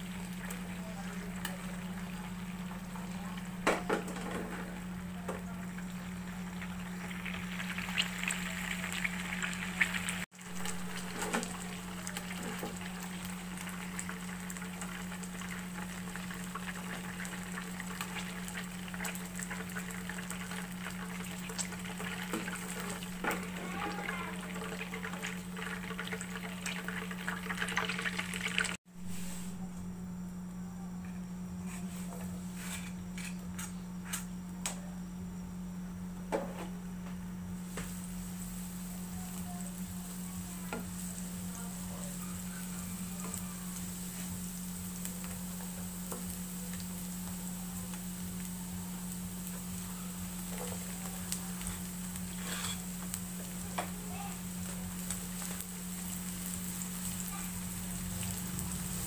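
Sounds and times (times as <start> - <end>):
chicken sizzling in oil: 0.0 - 29.4, 37.6 - 59.0.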